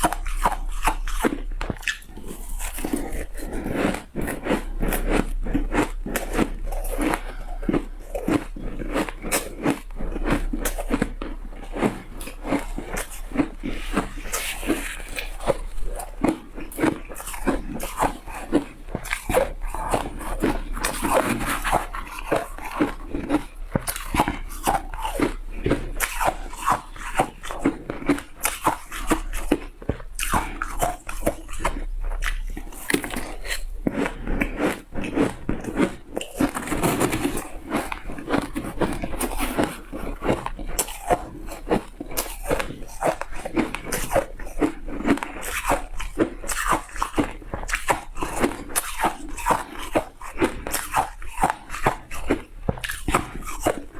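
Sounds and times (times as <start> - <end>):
ice crunching while chewed: 0.0 - 53.9.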